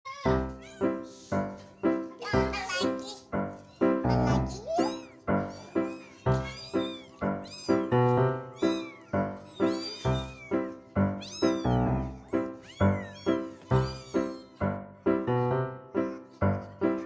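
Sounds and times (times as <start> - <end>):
kittens mewing: 0.1 - 17.0.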